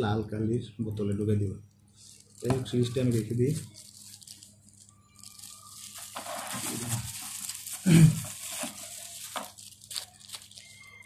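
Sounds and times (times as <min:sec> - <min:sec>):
plastic glove crinkling: 0:02.0 - 0:11.0.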